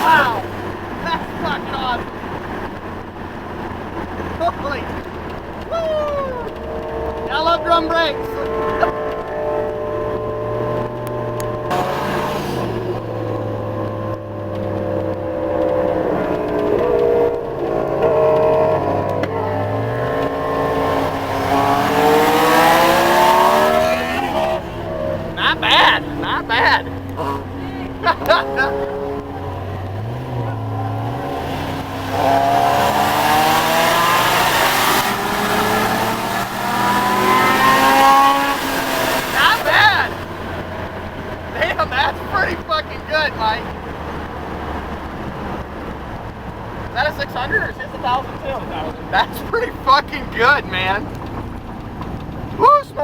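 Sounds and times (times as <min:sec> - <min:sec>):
truck engine accelerating: 0:00.0 - 0:53.0.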